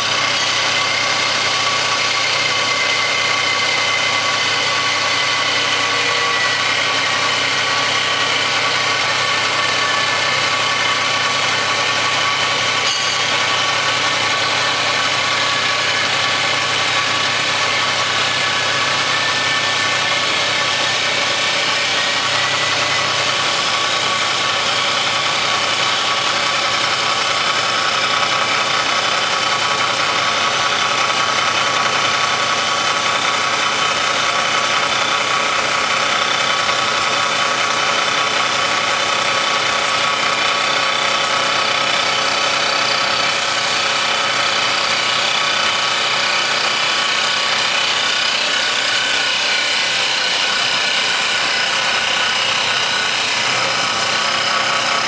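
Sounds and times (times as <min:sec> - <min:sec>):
lathe running with high whine: 0:00.0 - 0:55.0.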